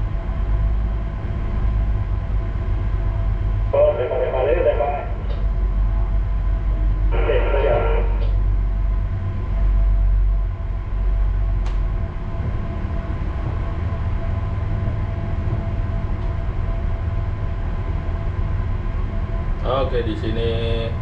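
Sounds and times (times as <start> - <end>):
faint steady hum: 0.0 - 21.0
ship engine drone: 0.0 - 21.0.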